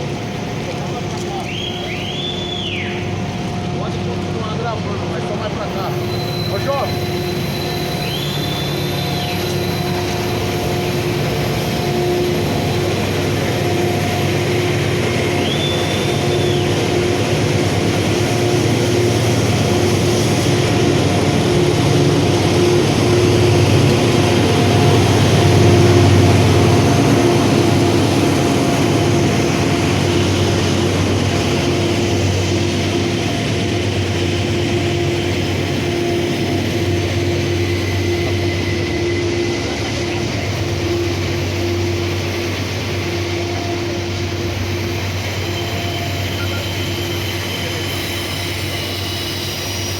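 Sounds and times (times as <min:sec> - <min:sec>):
train passing rumble: 0:00.0 - 0:49.9.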